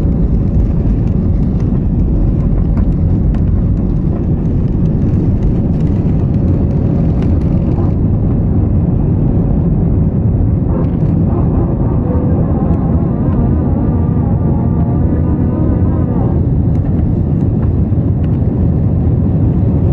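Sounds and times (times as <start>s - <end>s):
airliner engine deep rumble: 0.0s - 19.9s
continuous rushing noise: 0.0s - 19.9s.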